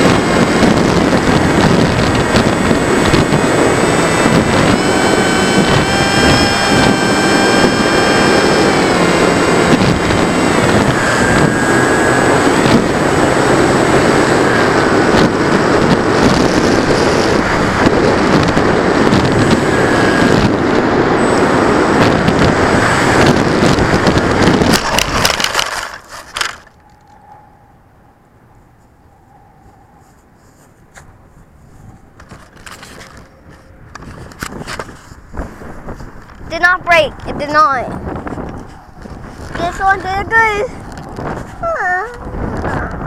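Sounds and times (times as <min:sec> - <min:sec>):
wind rush over model plane: 0:00.0 - 0:27.4, 0:28.6 - 0:43.0
electric motor and propeller whine: 0:00.0 - 0:43.0.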